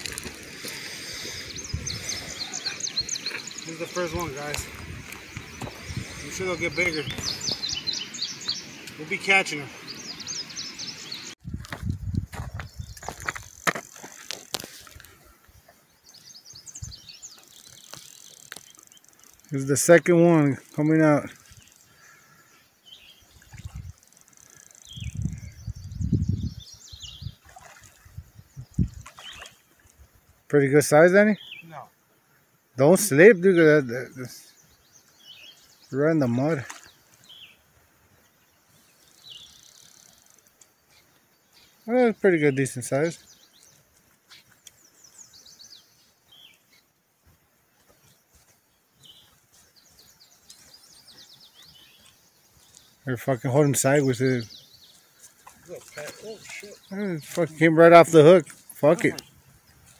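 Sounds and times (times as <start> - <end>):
faint outdoor background: 0.0 - 59.9
small birds chirping: 0.0 - 59.9.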